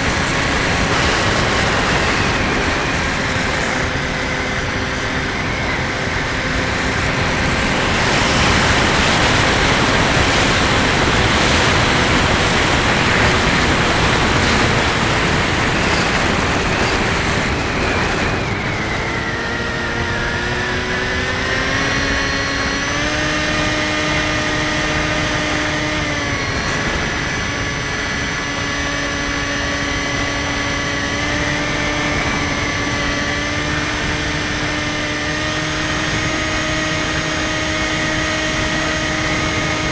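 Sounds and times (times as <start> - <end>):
model plane motor whine: 0.0 - 39.9
wind rush: 0.0 - 39.9.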